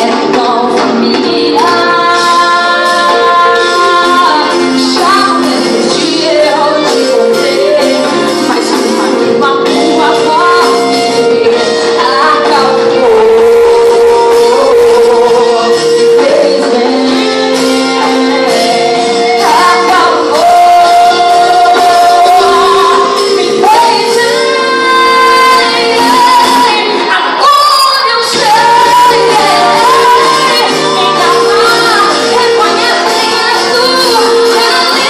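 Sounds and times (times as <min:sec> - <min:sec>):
band playing: 0:00.0 - 0:35.0
woman singing gospel: 0:00.0 - 0:35.0.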